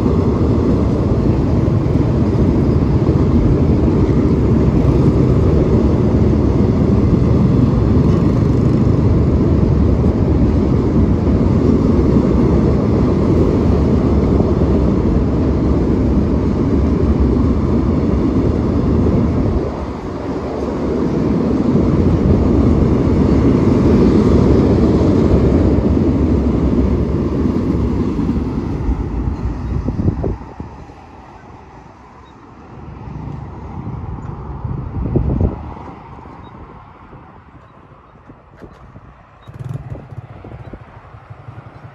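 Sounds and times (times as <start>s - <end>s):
freight wagons rumbling on track: 0.0s - 41.9s.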